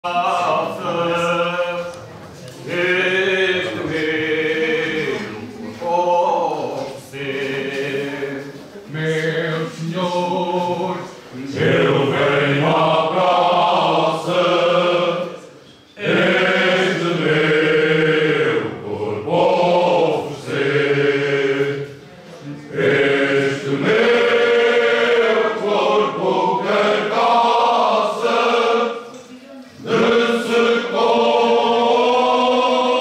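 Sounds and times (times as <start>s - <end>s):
men singing a cappella: 0.0s - 2.0s, 2.7s - 15.4s, 16.0s - 21.9s, 22.8s - 29.0s, 29.8s - 33.0s.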